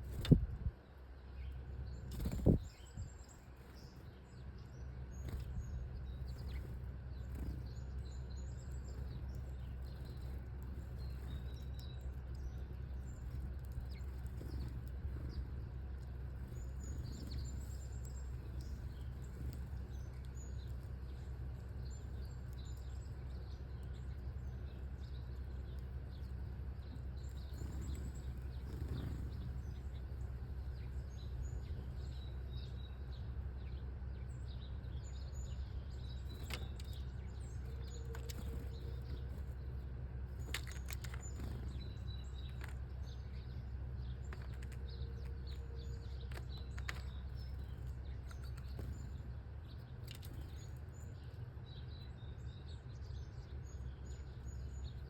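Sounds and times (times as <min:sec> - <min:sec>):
low background rumble: 0:00.0 - 0:55.0
small birds chirping: 0:00.0 - 0:55.0.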